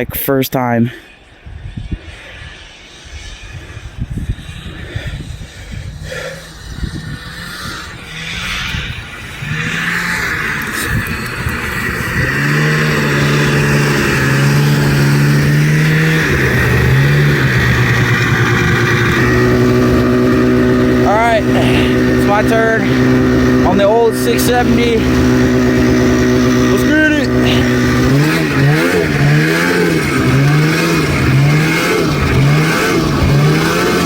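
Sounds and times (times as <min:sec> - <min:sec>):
snowmobile engine running: 0:00.0 - 0:34.0.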